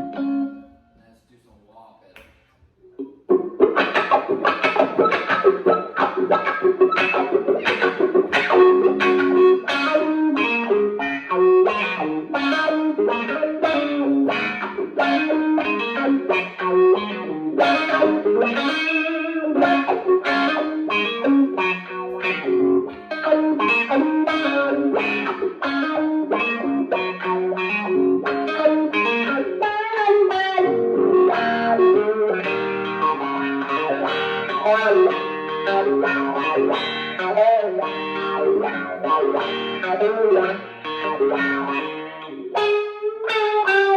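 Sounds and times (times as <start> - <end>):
overdriven electric guitar notes: 0.0 - 1.0, 2.9 - 43.9.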